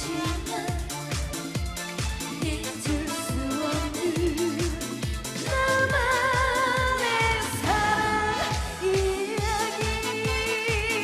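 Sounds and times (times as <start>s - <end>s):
woman singing into a microphone: 0.0s - 1.2s, 2.3s - 11.0s
amplified band with dance beat: 0.0s - 11.0s.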